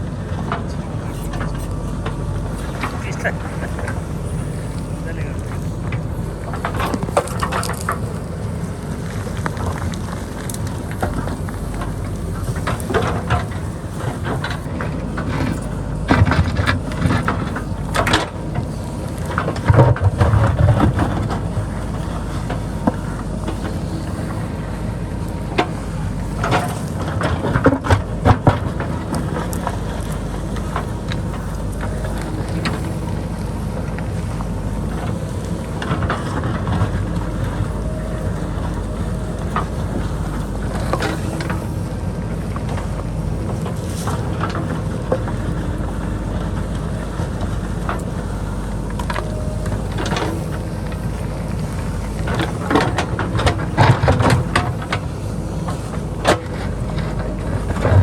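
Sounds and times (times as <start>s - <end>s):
diesel engine running under load: 0.0s - 58.0s
rock and earth clattering: 0.0s - 58.0s.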